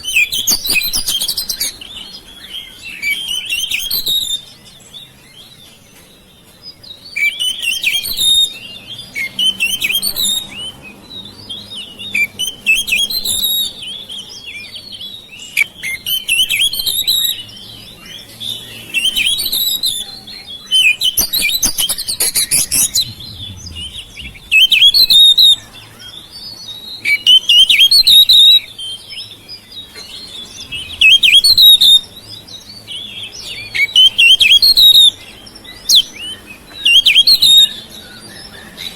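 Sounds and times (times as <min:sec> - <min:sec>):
magpie-robin singing: 0:00.0 - 0:38.9.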